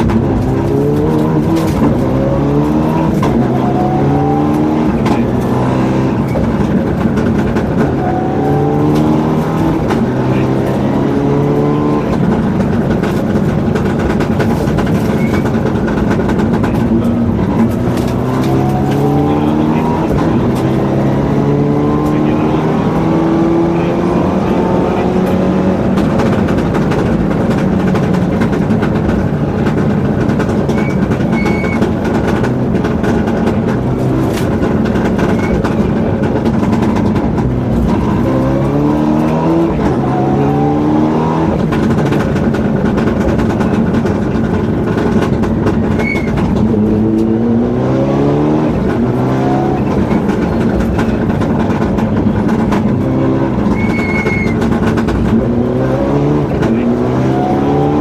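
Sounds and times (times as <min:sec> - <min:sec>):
car engine revving hard: 0:00.0 - 0:58.0.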